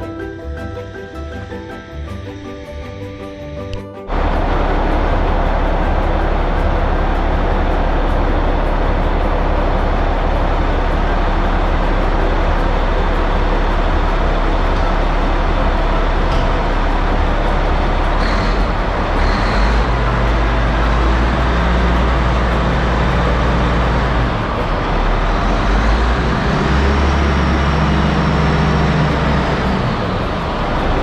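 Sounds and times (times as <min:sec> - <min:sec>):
diesel engine running: 0:02.6 - 0:31.0.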